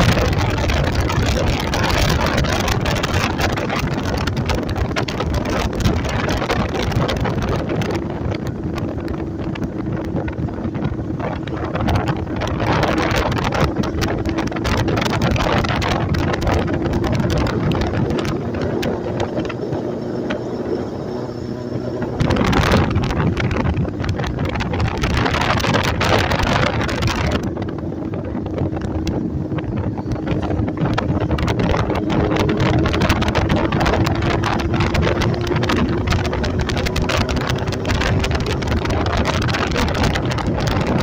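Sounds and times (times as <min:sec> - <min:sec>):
motorcycle engine: 0:00.0 - 0:41.0
wind buffeting microphone: 0:00.0 - 0:41.0.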